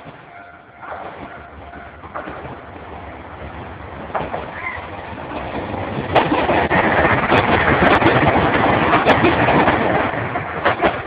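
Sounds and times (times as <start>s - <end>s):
train passing at speed: 0.0s - 11.0s
wheels clacking on rail joints: 0.0s - 11.0s.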